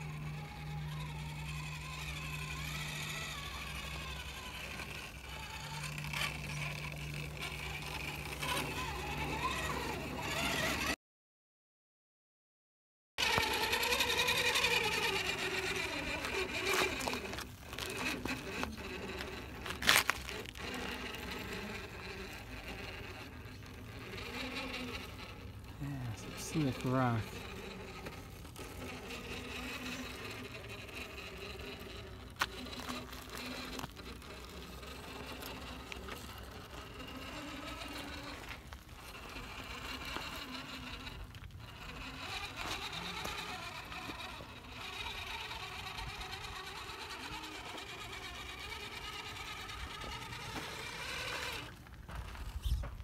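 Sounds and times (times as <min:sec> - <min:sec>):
electric motor and gears whining: 0:00.0 - 0:11.0, 0:13.2 - 0:53.0.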